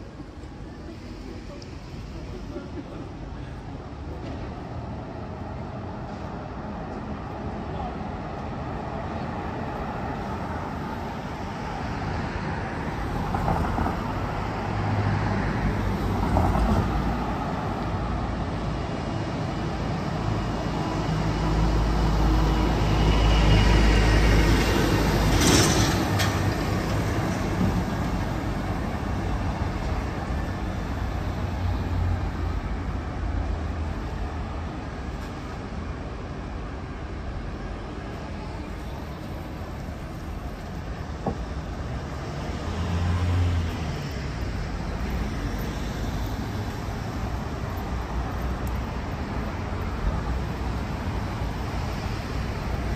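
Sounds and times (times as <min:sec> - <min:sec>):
cars passing: 0:00.0 - 0:52.9.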